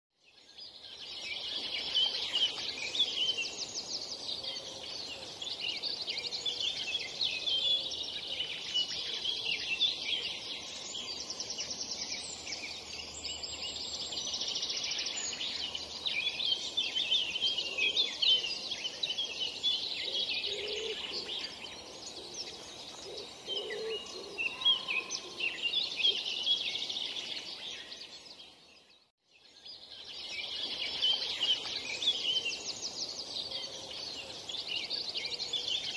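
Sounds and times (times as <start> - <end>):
small birds chirping and trilling: 0.2 - 35.9.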